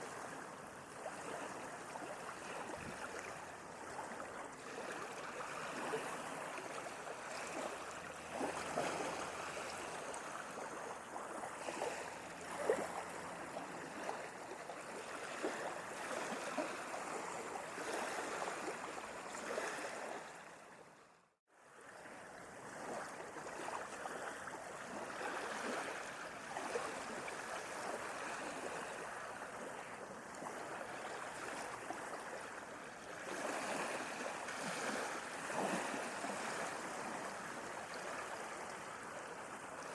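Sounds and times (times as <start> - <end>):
sea water washing and lapping: 0.0 - 20.9, 21.6 - 39.9.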